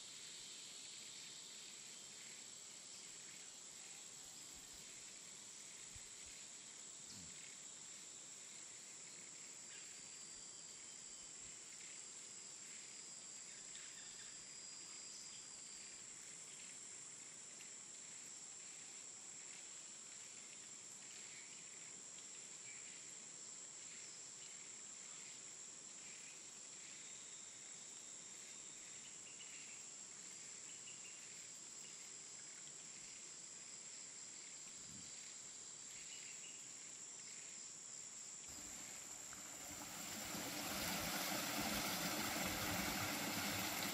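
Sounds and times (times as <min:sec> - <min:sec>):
quiet outdoor ambience: 0:00.0 - 0:43.9.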